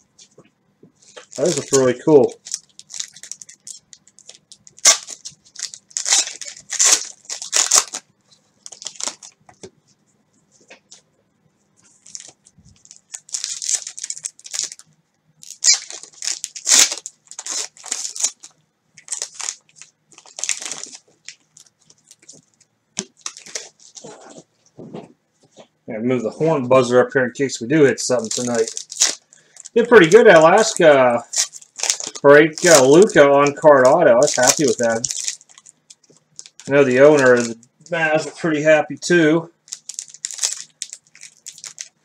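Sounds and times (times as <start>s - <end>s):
plastic and cellophane crinkling: 1.0s - 9.7s, 11.8s - 25.7s, 27.8s - 42.0s.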